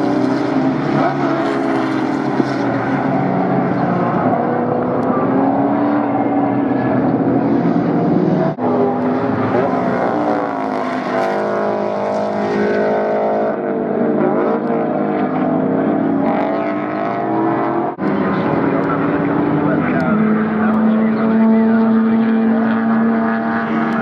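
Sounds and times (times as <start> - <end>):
race car engines passing: 0.0 - 24.0.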